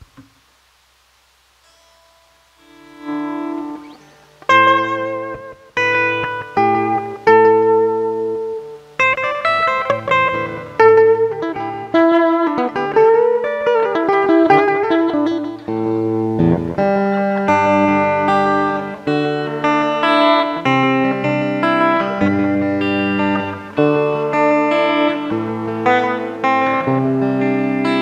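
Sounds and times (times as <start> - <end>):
guitar with reverb: 1.4 - 28.0.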